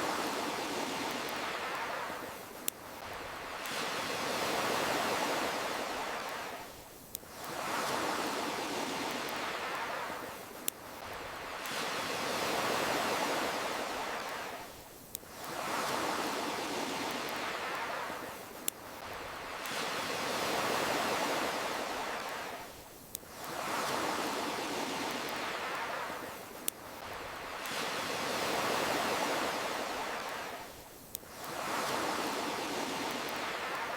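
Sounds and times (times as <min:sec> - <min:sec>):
ocean waves washing: 0:00.0 - 0:33.9.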